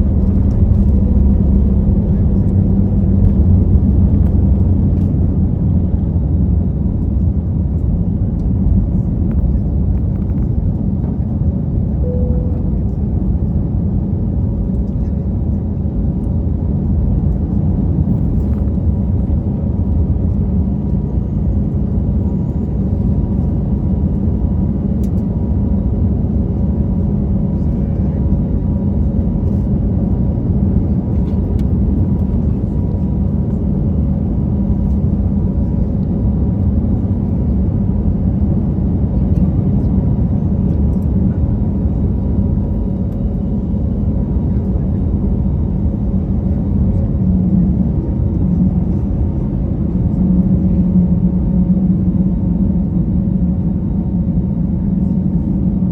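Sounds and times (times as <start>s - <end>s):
faint constant hum: 0.0s - 55.9s
jet engine rumble: 0.0s - 55.9s.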